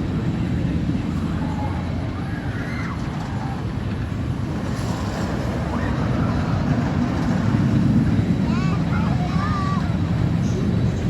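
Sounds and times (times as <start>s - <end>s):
roller coaster train rumbling on track: 0.0s - 11.0s
wind rushing over microphone: 0.0s - 11.0s.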